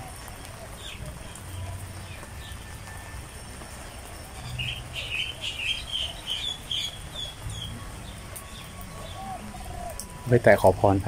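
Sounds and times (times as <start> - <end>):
bird chirping: 0.4 - 10.0.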